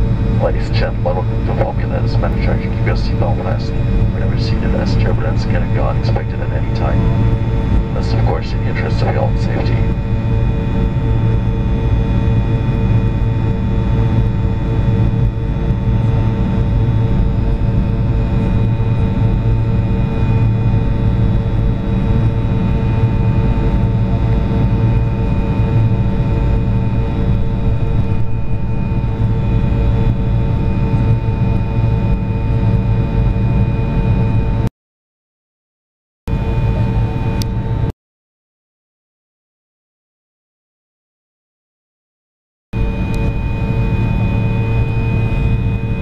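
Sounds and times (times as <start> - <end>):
airliner cabin engine drone: 0.0 - 34.7, 36.3 - 37.9, 42.8 - 46.0
steady whining tones: 0.0 - 34.7, 42.8 - 46.0.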